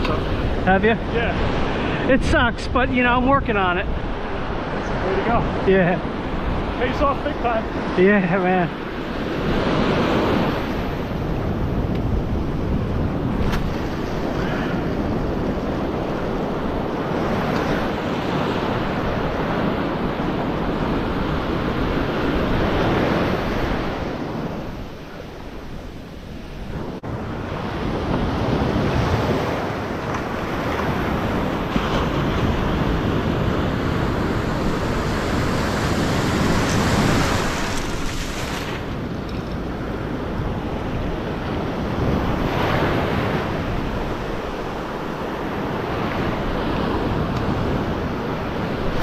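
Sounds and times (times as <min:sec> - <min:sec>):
ocean surf breaking: 0:00.0 - 0:49.0.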